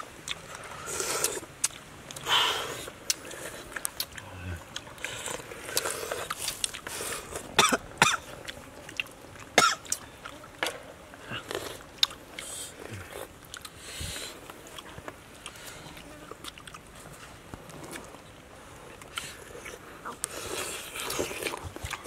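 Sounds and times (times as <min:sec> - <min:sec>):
chewing and slurping: 0:00.0 - 0:22.0.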